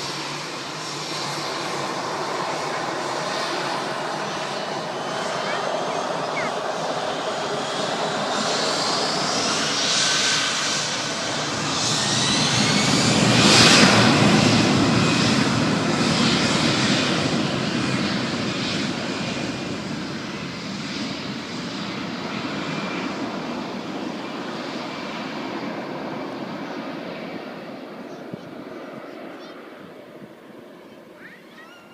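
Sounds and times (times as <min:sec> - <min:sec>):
aircraft passing by: 0:00.0 - 0:31.9.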